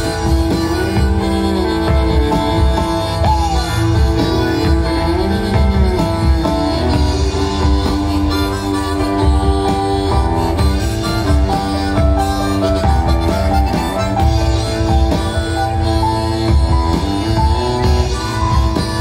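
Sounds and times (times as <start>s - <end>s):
live band music over loudspeakers: 0.0s - 19.0s
pulsing low drum beat: 0.0s - 19.0s.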